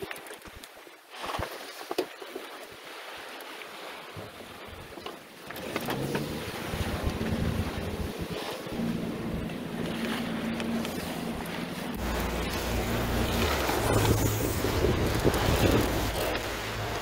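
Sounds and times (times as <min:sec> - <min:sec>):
wind and water rushing: 0:00.0 - 0:17.0.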